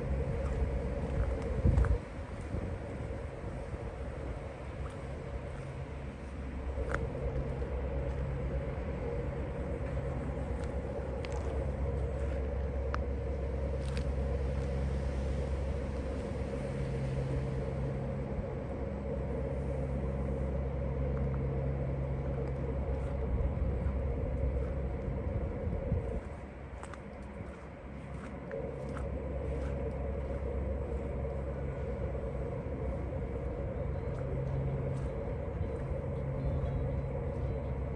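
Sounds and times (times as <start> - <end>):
low engine drone: 0.0 - 37.9.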